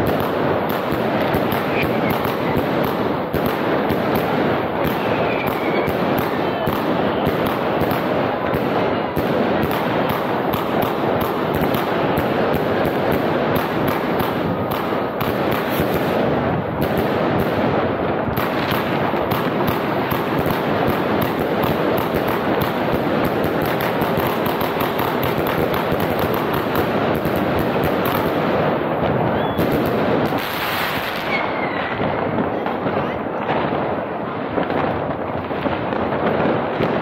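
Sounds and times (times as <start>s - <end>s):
fireworks crackling and bursting: 0.0s - 37.0s.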